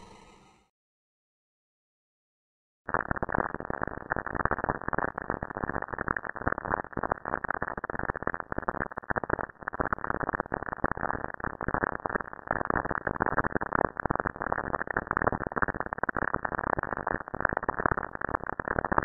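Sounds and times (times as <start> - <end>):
crackling hissing static: 2.9 - 19.0.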